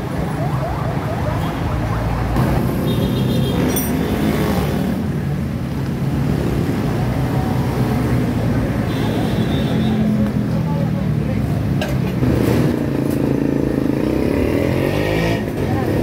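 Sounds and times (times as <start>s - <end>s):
road traffic engines: 0.0s - 16.0s.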